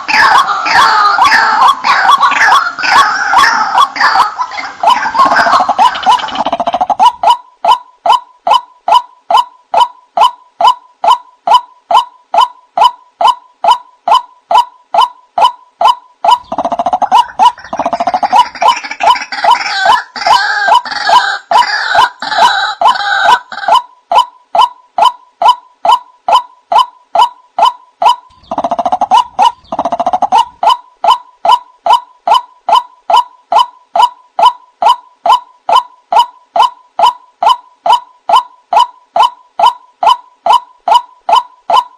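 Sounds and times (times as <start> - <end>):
raucous bird chattering: 0.0 - 41.9.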